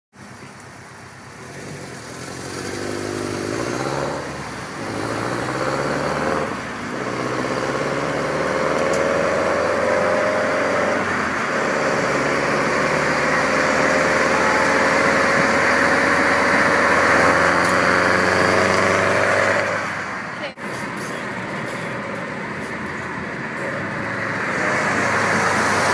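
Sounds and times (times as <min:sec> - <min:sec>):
road and wind noise: 0:00.1 - 0:25.9
car exhaust accelerating: 0:00.5 - 0:25.9.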